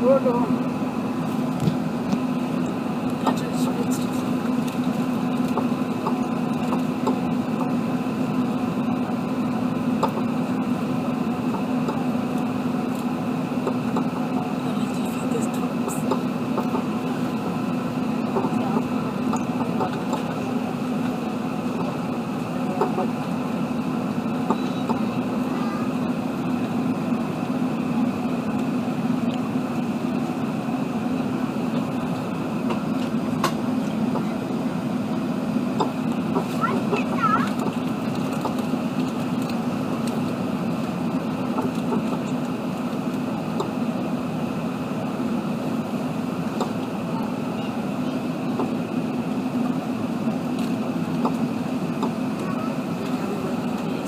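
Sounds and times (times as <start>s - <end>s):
aircraft cabin engine drone: 0.0s - 54.0s.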